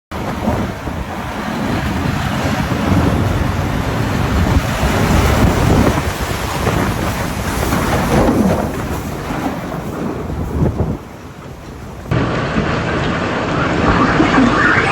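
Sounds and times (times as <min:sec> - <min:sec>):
heavy wind: 0:00.1 - 0:14.9
rain: 0:00.1 - 0:14.9
thunder rumbling: 0:00.1 - 0:14.9.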